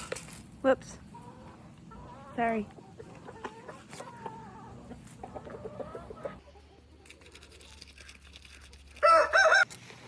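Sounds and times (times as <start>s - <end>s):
chickens clucking: 0.0s - 9.7s.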